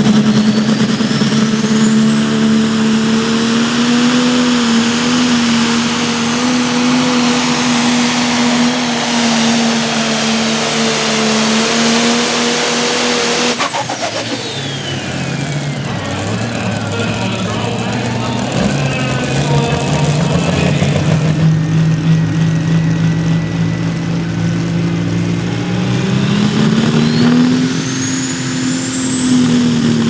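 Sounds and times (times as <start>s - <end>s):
diesel engine running flat out: 0.0s - 30.0s
high turbo whine: 0.0s - 30.0s.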